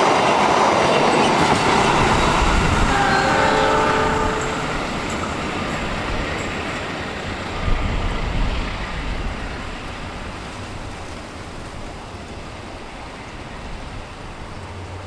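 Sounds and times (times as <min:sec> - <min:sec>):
train coaches rumbling on rails: 0:00.0 - 0:15.0.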